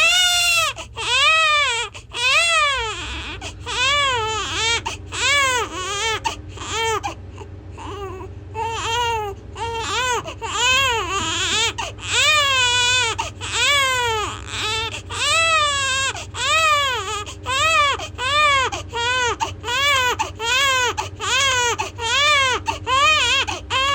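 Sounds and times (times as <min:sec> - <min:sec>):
baby crying loudly: 0:00.0 - 0:07.2, 0:07.8 - 0:23.9.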